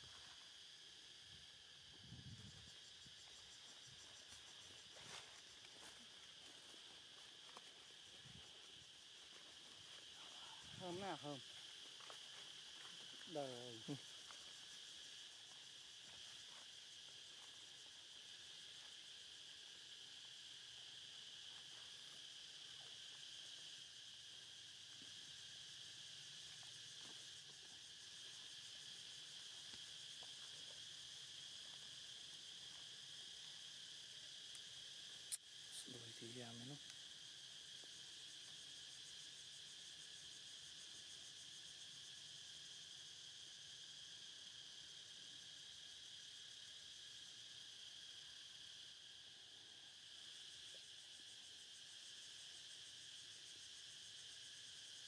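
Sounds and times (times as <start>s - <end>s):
high-pitched drone of insects: 0.0s - 55.0s.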